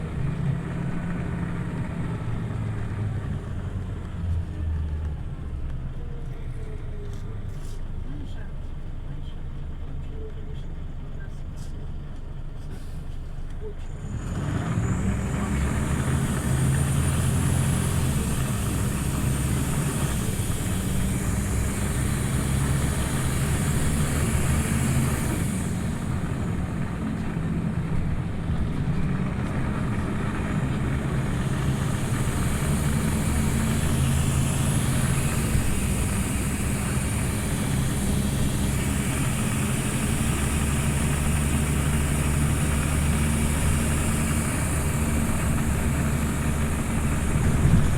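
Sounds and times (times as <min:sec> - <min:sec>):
bus diesel engine accelerating: 0:00.0 - 0:47.9.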